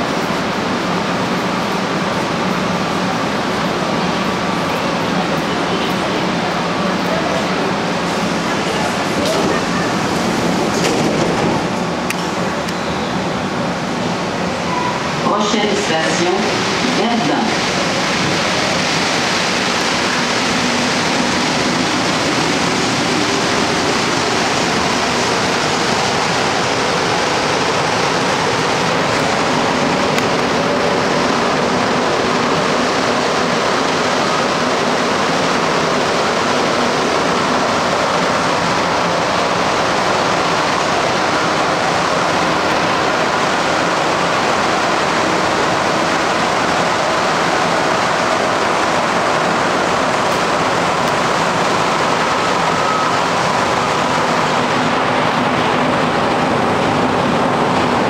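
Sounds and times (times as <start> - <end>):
train rushing noise: 0.0 - 58.0.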